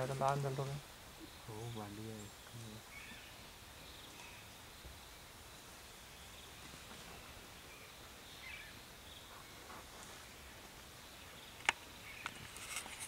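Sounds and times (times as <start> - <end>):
faint chirps: 0.0 - 12.8
steady low hiss: 0.0 - 13.0.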